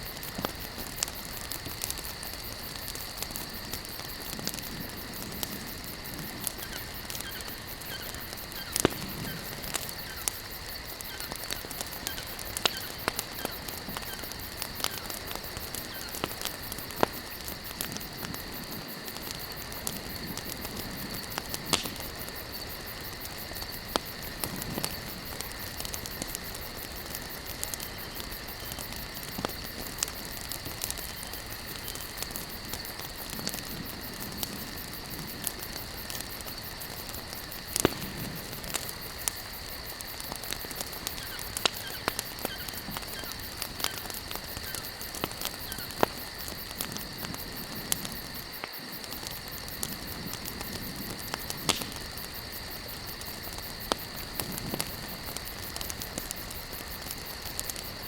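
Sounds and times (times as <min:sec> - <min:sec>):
campfire crackling and popping: 0:00.0 - 0:58.0
fire hissing: 0:00.0 - 0:58.0.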